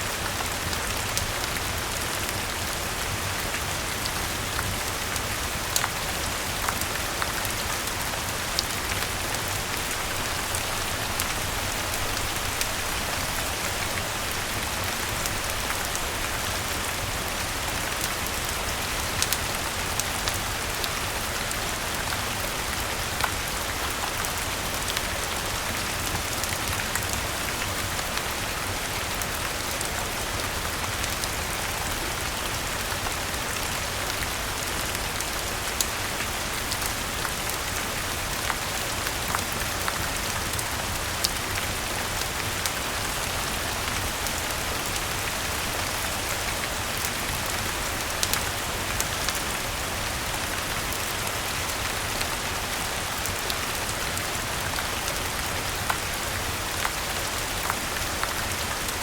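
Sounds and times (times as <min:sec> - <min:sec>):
steady rain falling: 0:00.0 - 0:59.0
rain ticks and pops: 0:00.1 - 0:33.5, 0:34.1 - 0:59.0.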